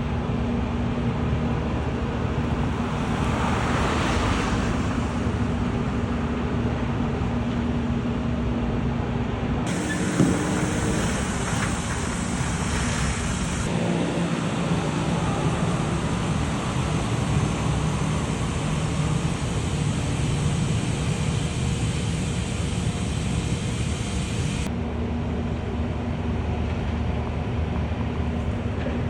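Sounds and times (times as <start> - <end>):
diesel engine humming and hissing: 0.0 - 29.0.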